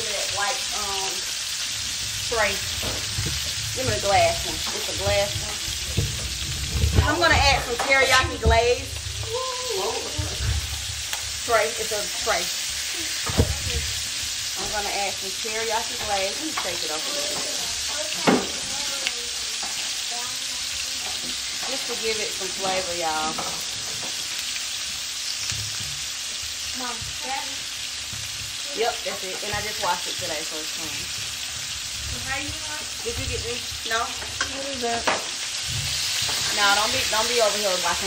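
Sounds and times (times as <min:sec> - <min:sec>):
meat sizzling in a pan: 0:00.0 - 0:38.0.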